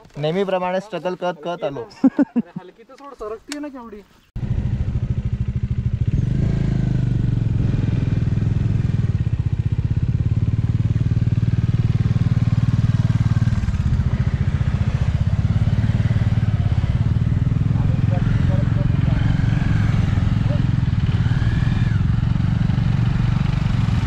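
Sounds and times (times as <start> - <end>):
motorcycle engine under throttle: 4.4 - 24.0.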